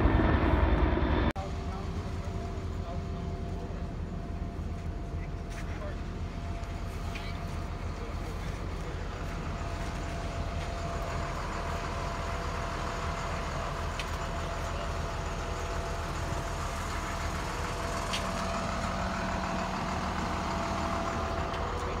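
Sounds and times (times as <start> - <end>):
truck engine idling with whine: 0.0 - 22.0.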